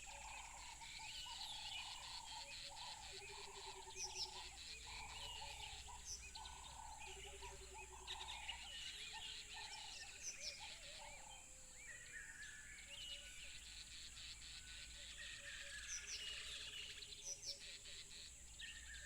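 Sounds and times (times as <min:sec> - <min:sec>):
low repeated bird calls: 0:00.0 - 0:19.0.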